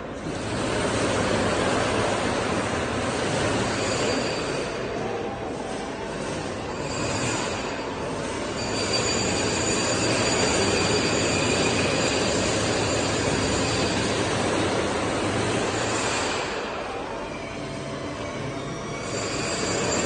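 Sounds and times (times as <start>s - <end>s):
machine drive noise with high whine: 0.0s - 20.0s.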